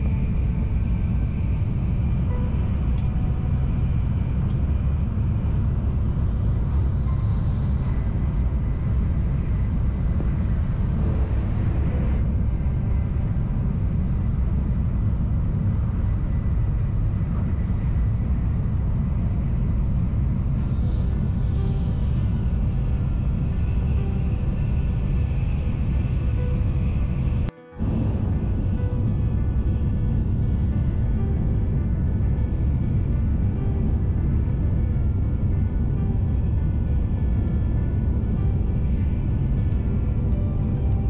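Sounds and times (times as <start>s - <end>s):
train cabin low rumble: 0.0s - 41.0s.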